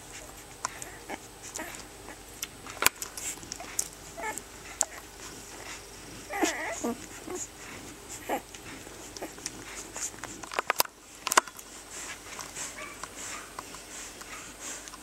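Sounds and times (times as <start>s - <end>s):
puppies squeaking and suckling: 0.0s - 15.0s.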